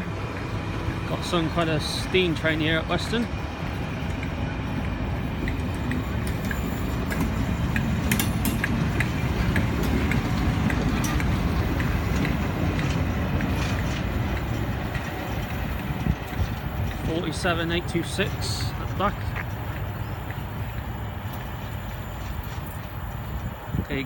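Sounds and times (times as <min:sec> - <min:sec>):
light clicks of train: 0:00.0 - 0:24.0
train rumbling: 0:00.0 - 0:24.0.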